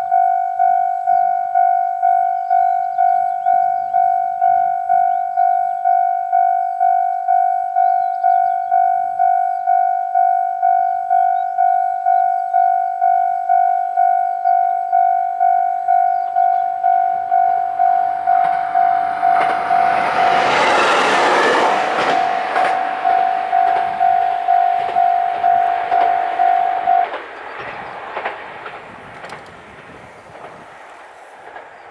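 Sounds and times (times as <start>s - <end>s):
level crossing warning bell: 0.0s - 27.2s
railcar passing with wheel noise: 0.0s - 31.9s.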